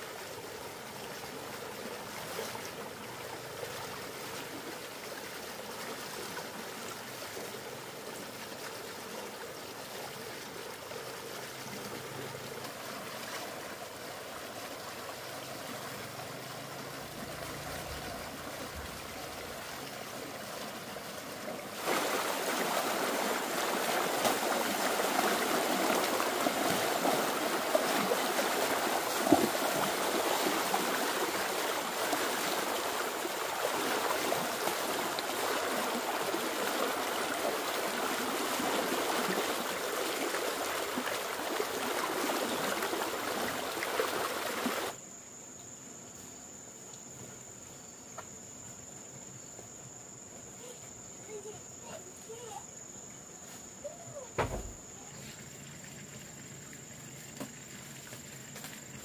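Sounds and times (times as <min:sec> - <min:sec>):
rushing water: 0:00.0 - 0:45.0, 0:53.8 - 0:59.0.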